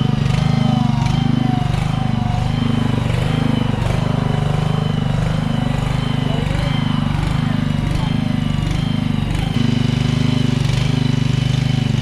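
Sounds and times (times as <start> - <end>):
thin wavering whine: 0.0 - 11.1
heavy engine running: 0.0 - 12.0.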